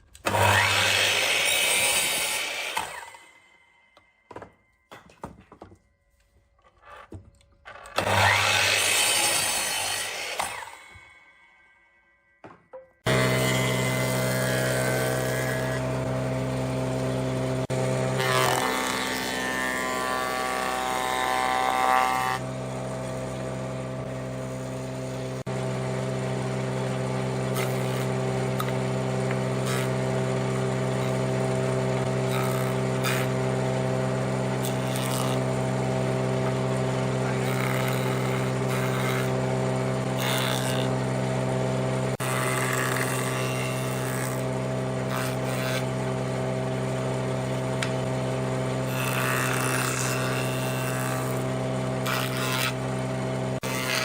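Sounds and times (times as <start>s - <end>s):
power tool motor humming: 0.1s - 3.3s, 7.8s - 11.0s, 13.0s - 54.0s.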